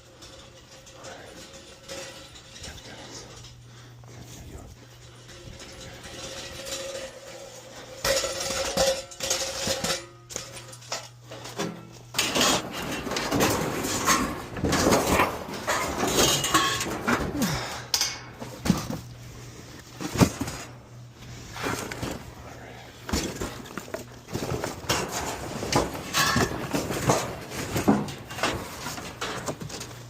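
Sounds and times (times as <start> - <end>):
scrap metal clanking and rattling: 0.0 - 30.0
steady low hum: 0.0 - 30.0.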